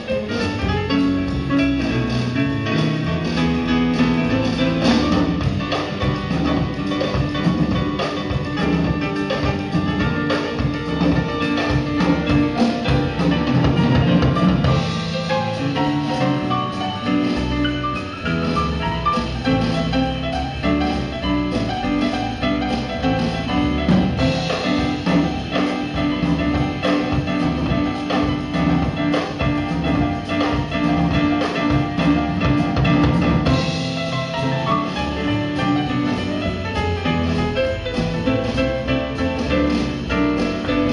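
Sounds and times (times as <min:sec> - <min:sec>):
band playing instrumental: 0:00.0 - 0:40.9
drum kit beat: 0:00.0 - 0:40.9.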